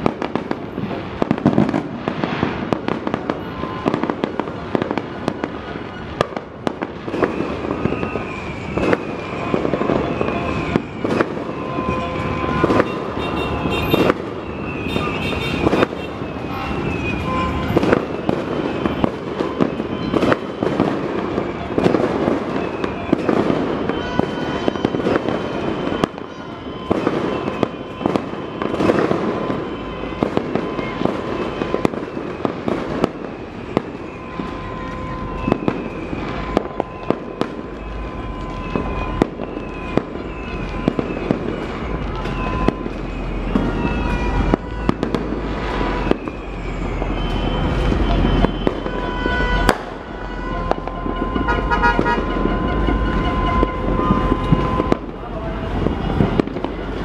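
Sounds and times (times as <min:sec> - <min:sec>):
firecracker crackle: 0:00.0 - 0:57.0
firework bangs: 0:00.0 - 0:57.0.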